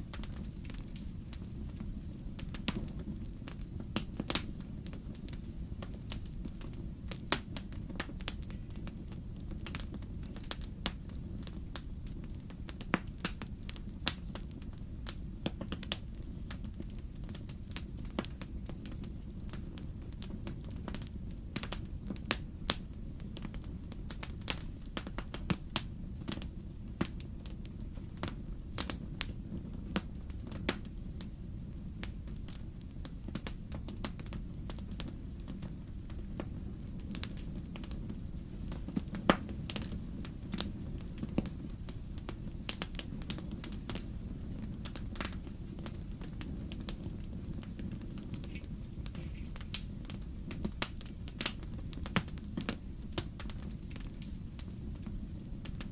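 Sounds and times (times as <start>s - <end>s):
fire crackling and popping: 0.0s - 55.9s
low rumble of flames: 0.0s - 55.9s.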